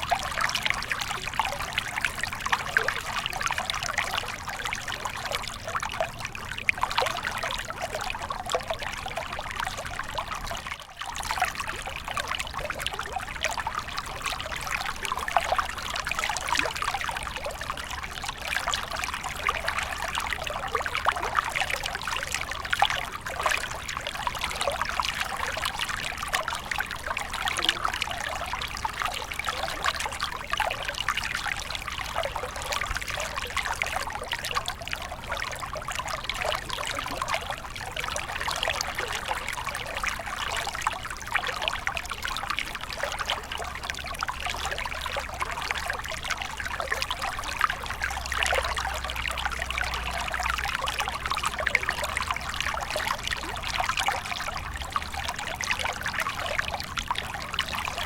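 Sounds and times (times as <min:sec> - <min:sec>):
small stream trickling: 0:00.0 - 0:58.0.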